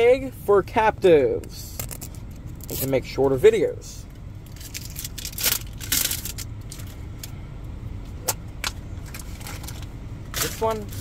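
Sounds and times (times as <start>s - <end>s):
low rumble of car cabin: 0.0s - 11.0s.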